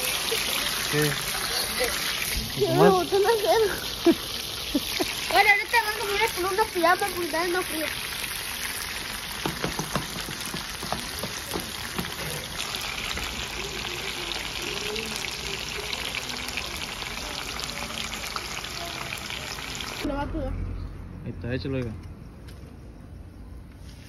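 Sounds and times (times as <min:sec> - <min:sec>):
onion sizzling in oil: 0:00.0 - 0:20.1.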